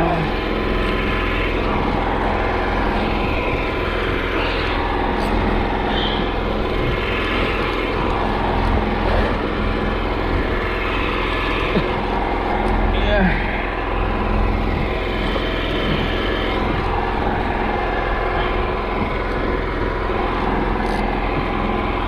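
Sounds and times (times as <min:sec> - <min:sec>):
boat motor humming: 0:00.0 - 0:22.0
water sloshing against hull: 0:00.2 - 0:22.0.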